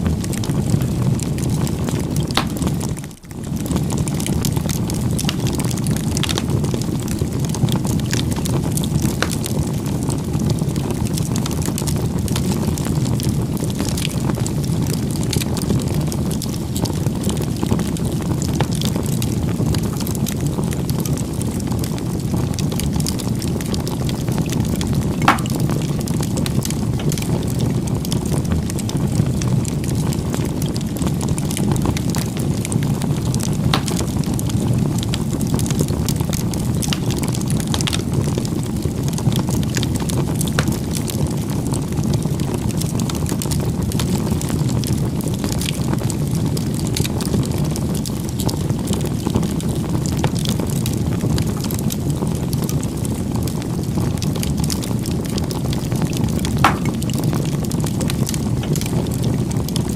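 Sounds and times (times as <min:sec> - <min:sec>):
burning wood crackling and popping: 0:00.0 - 0:59.9
campfire flames rumbling: 0:00.0 - 0:59.9.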